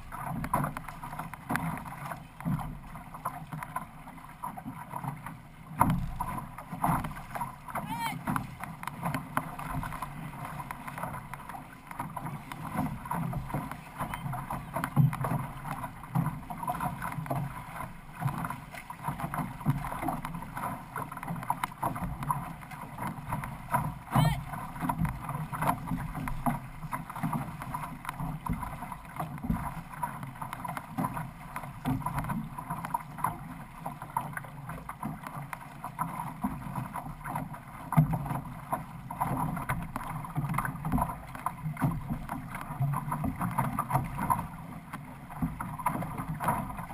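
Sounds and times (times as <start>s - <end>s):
water rushing along hull: 0.0s - 46.9s.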